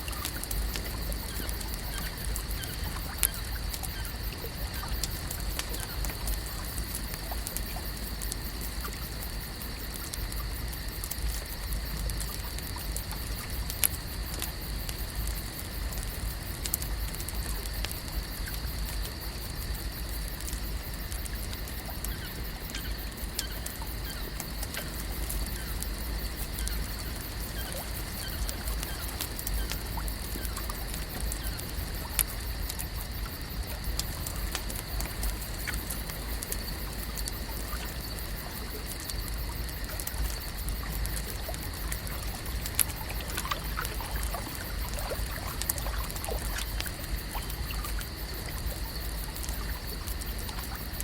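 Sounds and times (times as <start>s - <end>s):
water pattering and trickling: 0.0s - 51.0s
small scattered clicks: 0.2s - 48.8s.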